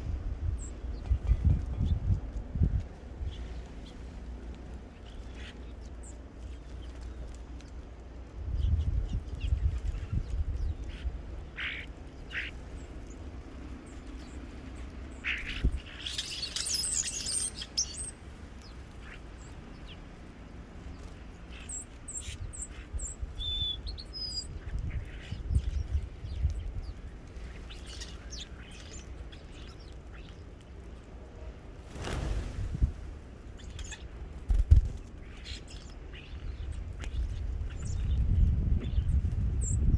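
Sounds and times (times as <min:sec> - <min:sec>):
birds calling and chirping: 0:00.3 - 0:31.2, 0:31.9 - 0:39.9.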